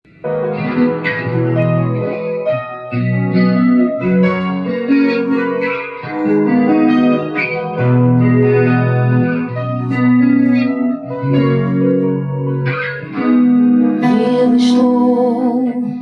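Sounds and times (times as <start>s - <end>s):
sustained organ-like chords: 0.3s - 14.0s.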